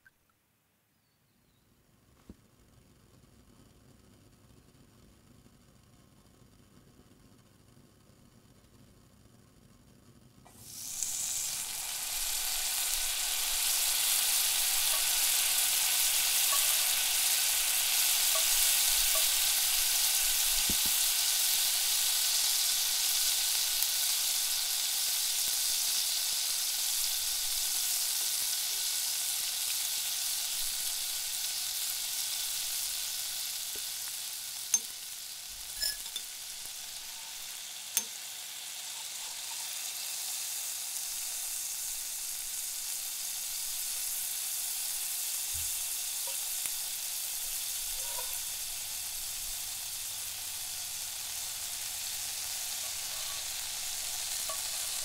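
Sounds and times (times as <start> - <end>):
onion sizzling in frying pan: 10.4 - 55.0.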